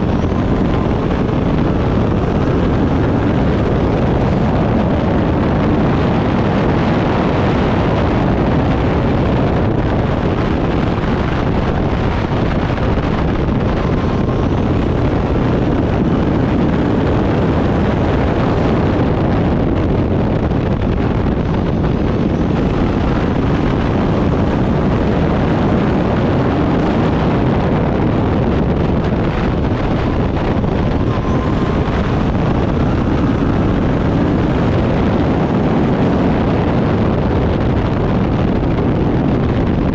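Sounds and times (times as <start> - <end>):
race car engine running hard: 0.0 - 39.9
wind noise on microphone: 0.0 - 39.9.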